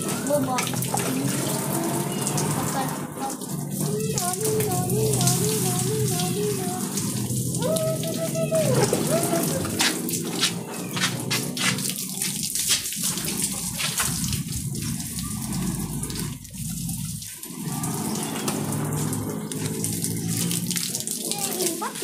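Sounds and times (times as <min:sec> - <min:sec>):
garden hose spraying water: 0:00.0 - 0:22.0
water drops splashing: 0:00.0 - 0:22.0.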